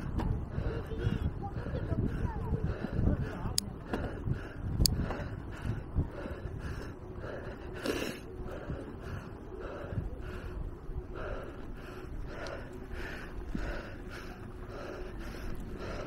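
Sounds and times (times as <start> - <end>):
person panting heavily: 0.0 - 16.0
road rumble: 0.0 - 16.0
wind: 0.0 - 16.0.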